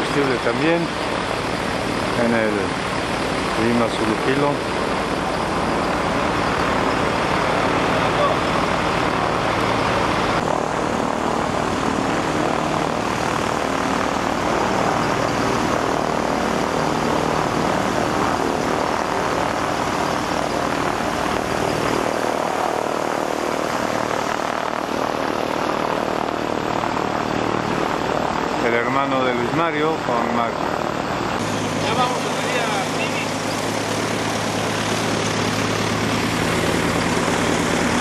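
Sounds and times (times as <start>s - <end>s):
propeller airplane engine droning: 0.0s - 38.0s.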